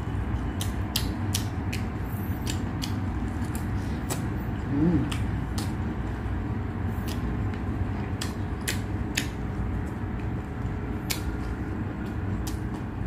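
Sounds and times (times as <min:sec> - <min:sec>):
low background hum: 0:00.0 - 0:13.0
chewing crunches: 0:00.3 - 0:13.0.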